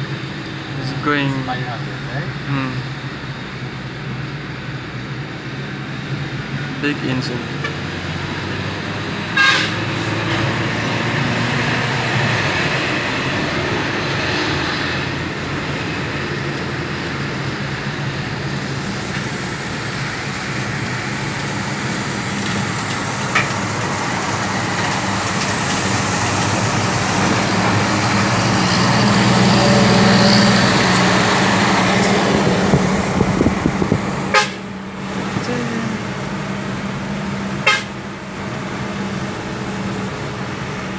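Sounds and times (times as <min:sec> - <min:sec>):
truck diesel engine drone: 0:00.0 - 0:40.9
tyre and road noise: 0:00.0 - 0:40.9.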